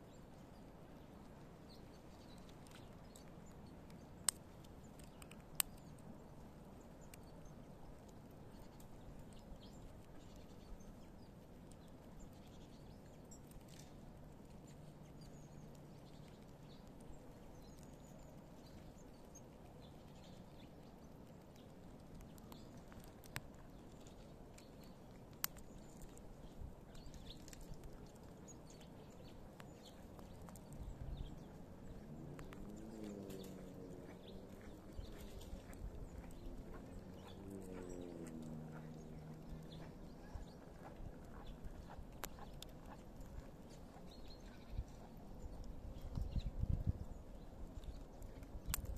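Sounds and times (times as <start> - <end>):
squirrel gnawing nuts: 1.3 - 48.9.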